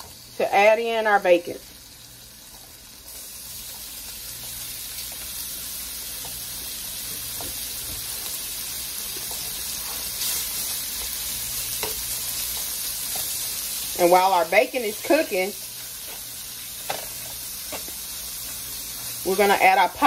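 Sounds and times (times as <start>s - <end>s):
bacon sizzling in a frying pan: 0.0s - 20.0s.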